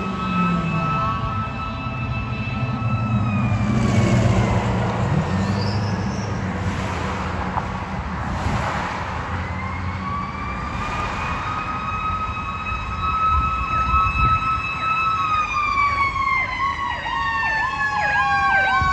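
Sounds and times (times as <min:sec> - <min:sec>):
fire engine siren wailing: 0:00.0 - 0:06.3, 0:09.2 - 0:18.9
road traffic rumble: 0:00.0 - 0:18.9.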